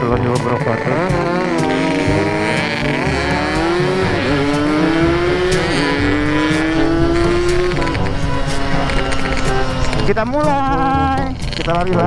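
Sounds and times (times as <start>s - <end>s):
two-stroke motorcycle engine accelerating: 0.0s - 12.0s.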